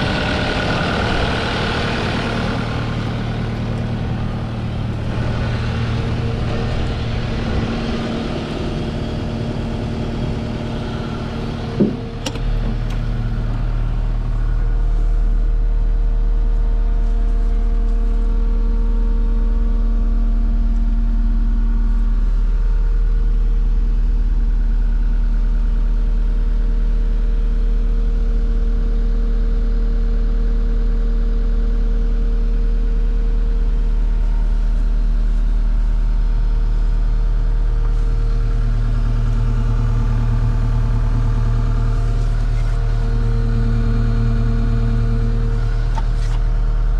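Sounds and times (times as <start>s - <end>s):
skid steer diesel engine running: 0.0s - 46.9s.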